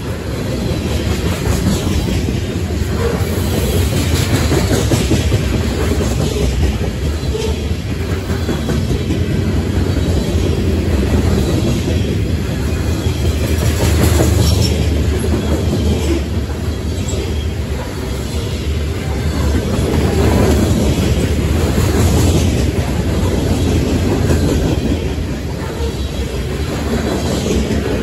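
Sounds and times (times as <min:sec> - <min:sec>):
freight train wheels rumbling on rails: 0:00.0 - 0:28.0.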